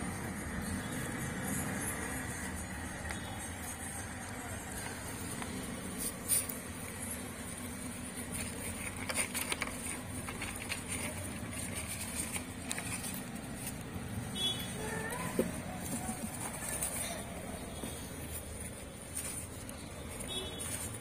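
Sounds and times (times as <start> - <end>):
rustling of straw and paper: 3.6 - 21.0.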